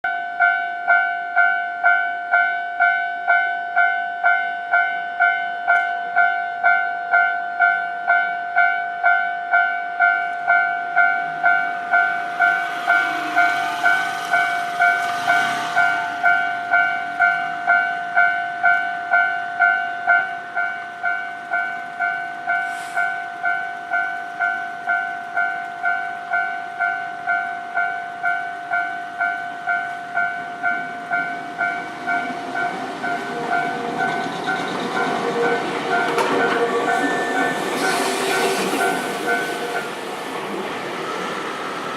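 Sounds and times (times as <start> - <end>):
level-crossing warning bell: 0.0 - 41.9
electric train passing: 0.3 - 41.9.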